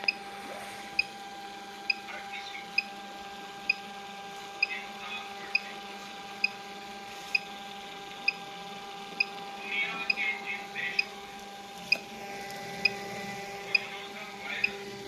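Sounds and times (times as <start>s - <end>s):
thermal printer whine: 0.0s - 15.0s.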